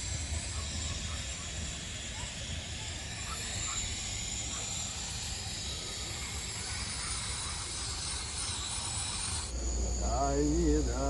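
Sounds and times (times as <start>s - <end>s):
steady hissing: 0.0s - 11.0s.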